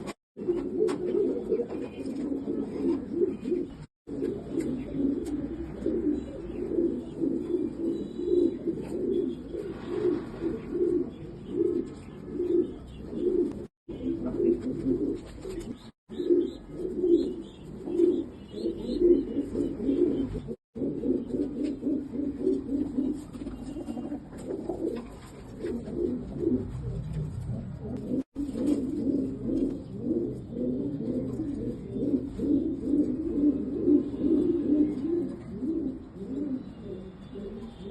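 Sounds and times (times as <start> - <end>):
pigeons cooing: 0.0 - 37.9.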